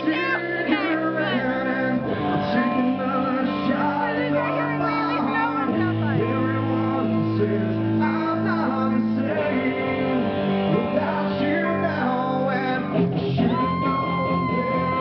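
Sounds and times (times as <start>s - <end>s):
electric guitar: 0.0s - 15.0s
male lead singer: 0.0s - 15.0s.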